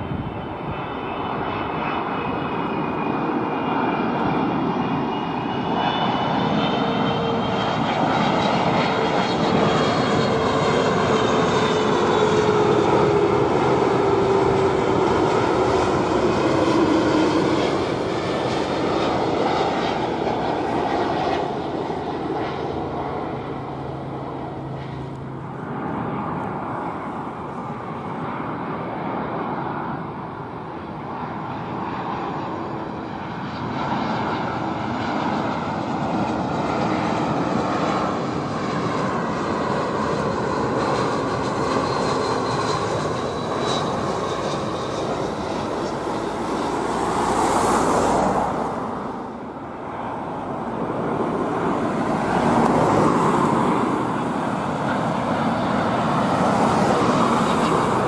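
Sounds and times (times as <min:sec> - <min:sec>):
airliner turbofan engines: 0:00.0 - 0:58.0.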